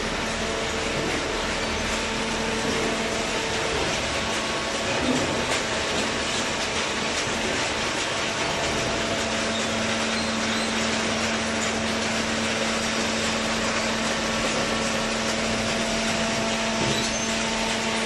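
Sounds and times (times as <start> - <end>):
baler machine running: 0.0 - 18.0.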